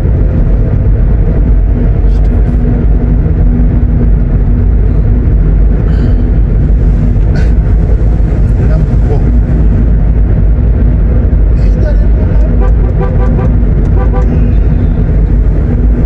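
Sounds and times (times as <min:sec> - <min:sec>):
car driving on paved road: 0:00.0 - 0:16.0.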